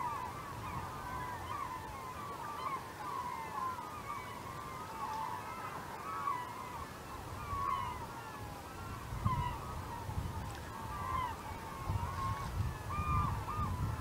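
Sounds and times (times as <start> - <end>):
flock of gulls calling: 0.0 - 14.0.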